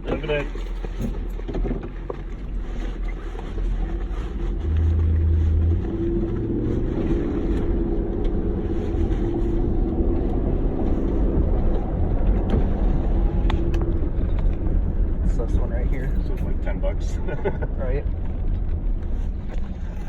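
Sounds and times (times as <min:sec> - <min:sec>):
road noise: 0:00.0 - 0:20.0
car engine from inside cabin: 0:02.1 - 0:20.0.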